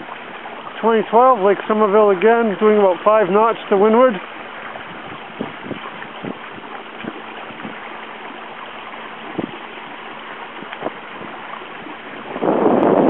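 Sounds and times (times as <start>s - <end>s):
small waves slapping hull: 0.0s - 13.0s
water rushing along hull: 0.0s - 13.0s
wind buffeting microphone: 0.0s - 13.0s.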